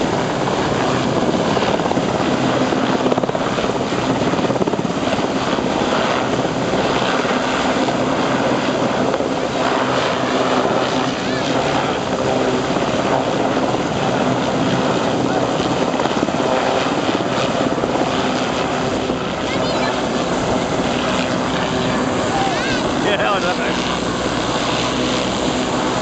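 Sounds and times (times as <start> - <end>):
helicopter engines and rotors: 0.0 - 26.0.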